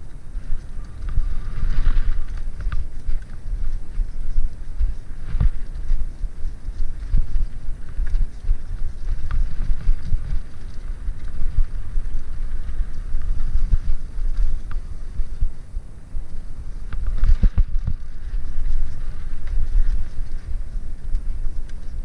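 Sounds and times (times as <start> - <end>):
bike tyres rumbling on dirt trail: 0.0 - 22.0
faint light ticks and rattles: 0.0 - 22.0
wind buffeting microphone: 0.0 - 22.0.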